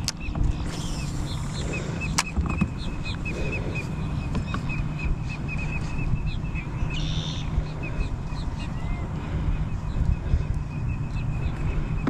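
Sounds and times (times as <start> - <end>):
bird chirping: 0.0 - 12.0
wind on microphone: 0.0 - 12.0.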